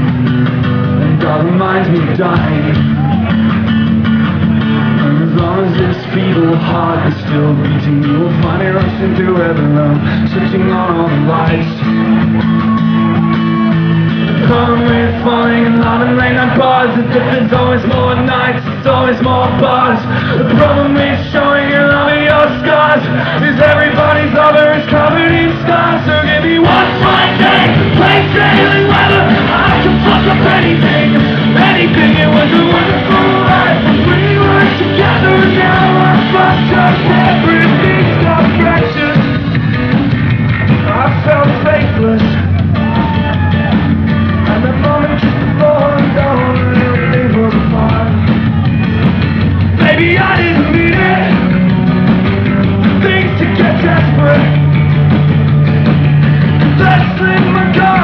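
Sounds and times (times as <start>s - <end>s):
live rock band playing: 0.0s - 58.0s
person singing: 1.0s - 3.3s, 5.0s - 39.5s, 40.7s - 48.4s, 49.8s - 51.7s, 52.8s - 54.6s, 56.8s - 58.0s.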